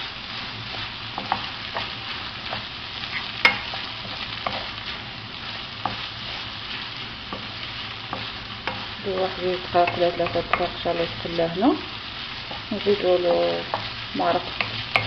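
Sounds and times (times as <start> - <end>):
rice sizzling in oil: 0.0 - 15.0.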